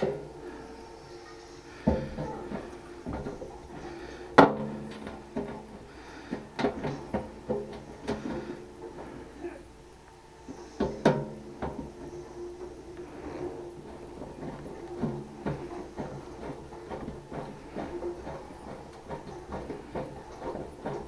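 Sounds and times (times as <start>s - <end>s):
knocks and clanks of tools: 1.8s - 9.2s, 10.5s - 21.0s.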